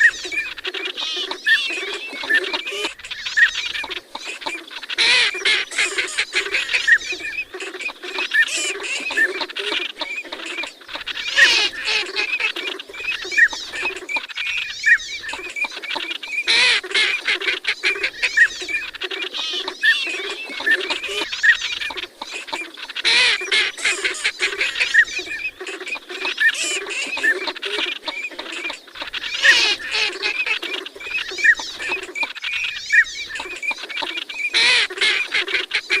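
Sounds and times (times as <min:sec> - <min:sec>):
ducks quacking: 0:00.0 - 0:36.0.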